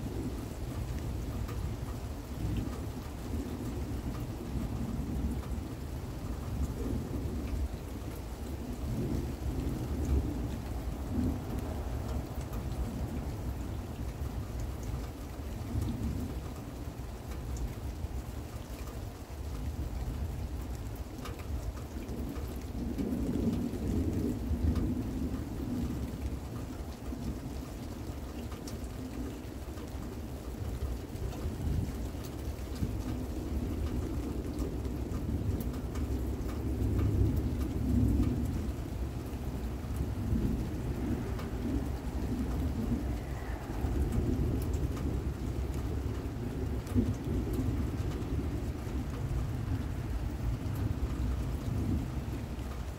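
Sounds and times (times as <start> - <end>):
thunder rumbling: 0.0 - 16.5, 21.9 - 52.9
raindrops ticking close by: 0.0 - 52.9
steady rain: 0.0 - 52.9.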